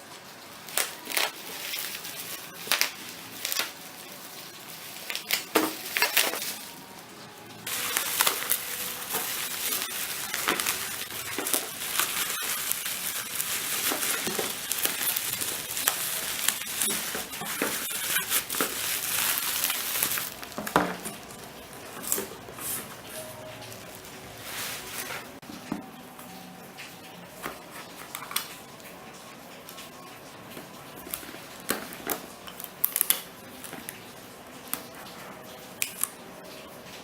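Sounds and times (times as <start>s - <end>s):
plastic wrapping crinkling: 0.0s - 25.6s, 26.8s - 36.2s.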